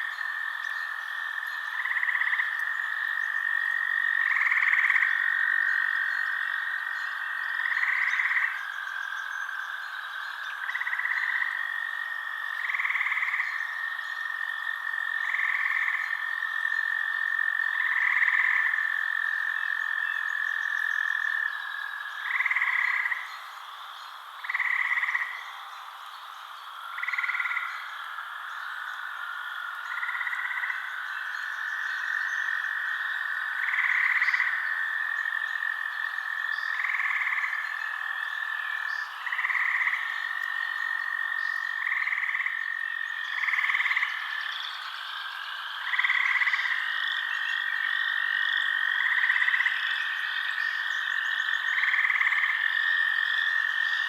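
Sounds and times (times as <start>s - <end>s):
frogs croaking: 0.0s - 54.0s.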